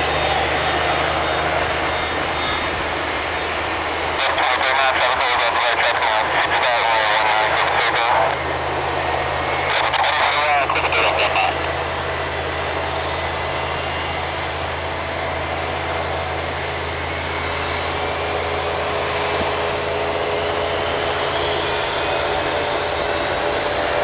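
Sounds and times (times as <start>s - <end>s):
jet engine rumble and whine: 0.0s - 24.0s.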